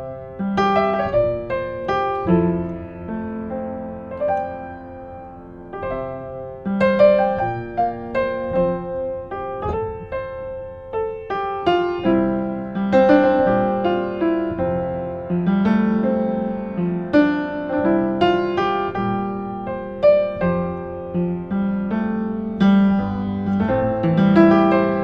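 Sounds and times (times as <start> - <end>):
upright piano playing: 0.0 - 25.0.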